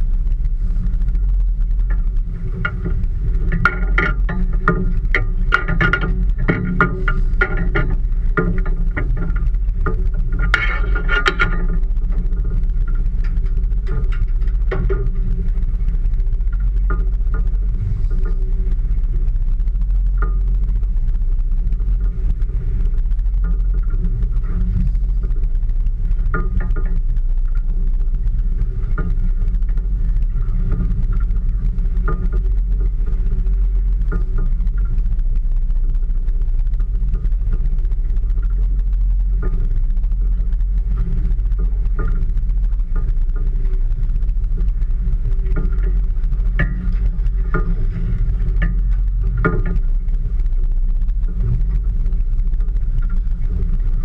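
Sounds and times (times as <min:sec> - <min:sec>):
boat engine rumble: 0:00.0 - 0:54.0.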